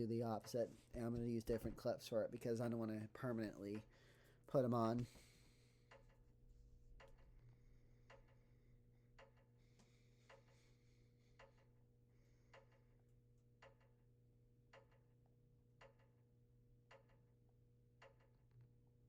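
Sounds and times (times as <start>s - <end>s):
faint regular ticking: 0.0s - 16.2s.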